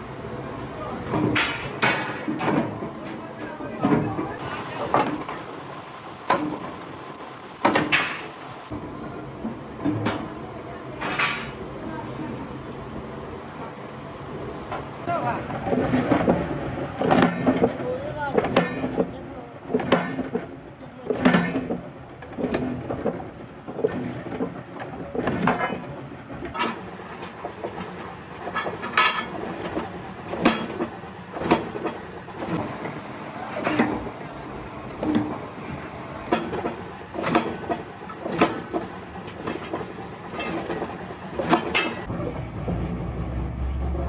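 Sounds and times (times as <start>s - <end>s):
steady noisy background: 0.0s - 44.0s
heavy steel clanking and banging: 0.8s - 12.7s, 14.6s - 44.0s.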